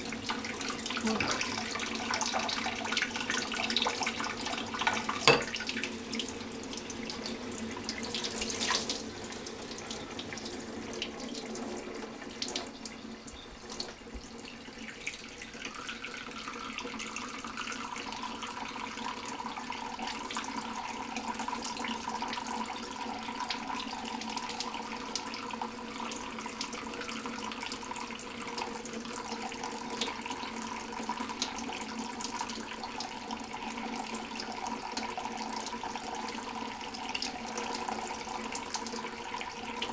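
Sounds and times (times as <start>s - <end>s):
tap water running: 0.0s - 39.9s.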